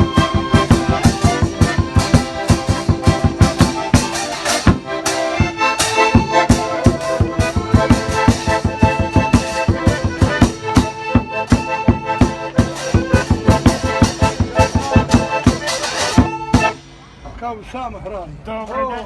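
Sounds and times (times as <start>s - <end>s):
fast steady drumbeat: 0.0s - 17.0s
held reedy chords: 0.0s - 17.2s.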